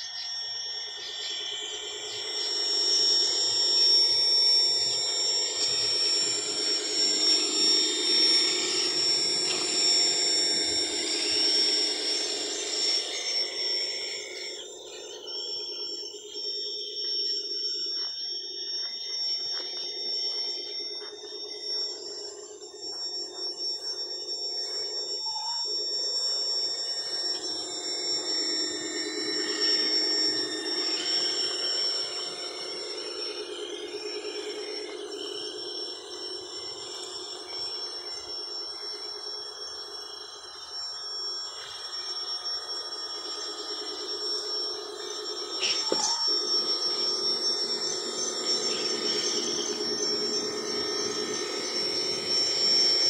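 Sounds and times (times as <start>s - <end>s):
high-pitched insect trilling: 0.0s - 53.0s
low pulsing insect chorus: 0.0s - 53.0s
thin high tone: 0.0s - 53.0s
toy car electric motor whining: 0.0s - 53.0s.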